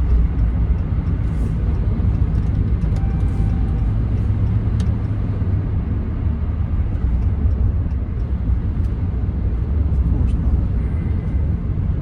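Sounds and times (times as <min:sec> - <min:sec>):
road noise inside cab: 0:00.0 - 0:12.0
truck engine rumble: 0:00.0 - 0:12.0.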